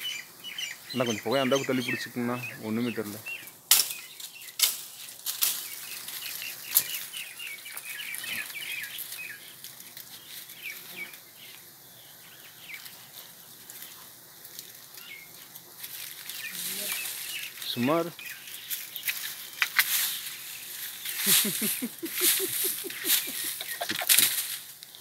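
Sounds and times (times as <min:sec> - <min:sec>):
bird chirping: 0:00.0 - 0:04.7, 0:05.5 - 0:13.2, 0:16.2 - 0:24.3.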